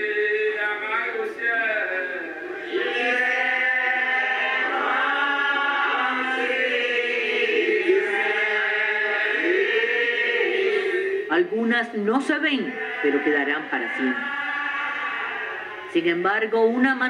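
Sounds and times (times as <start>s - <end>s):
choir singing slow chant: 0.0s - 0.8s, 2.1s - 11.5s, 12.2s - 16.0s.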